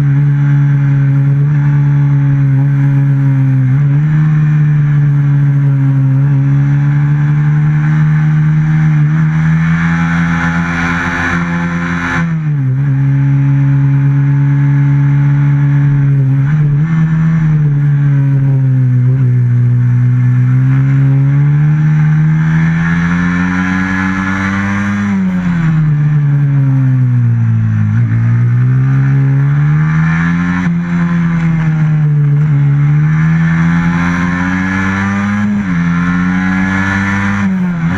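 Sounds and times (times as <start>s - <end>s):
racing motorcycle engine revving: 0.0s - 37.9s.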